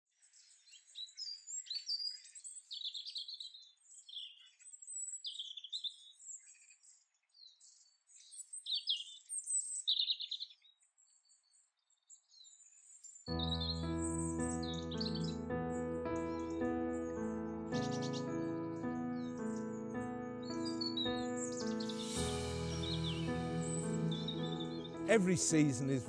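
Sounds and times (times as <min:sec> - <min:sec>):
songbirds singing and chirping: 0:00.1 - 0:26.0.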